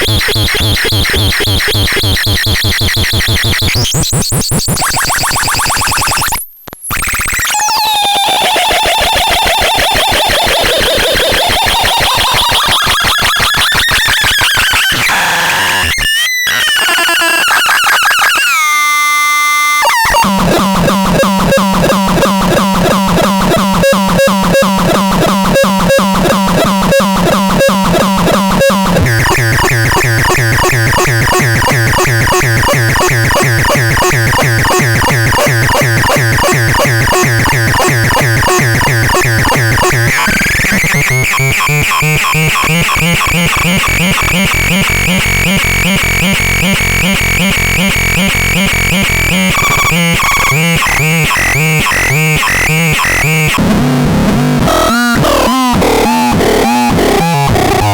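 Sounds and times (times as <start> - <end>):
buzzy synthesizer tones: 0.0 - 6.4, 7.0 - 57.9.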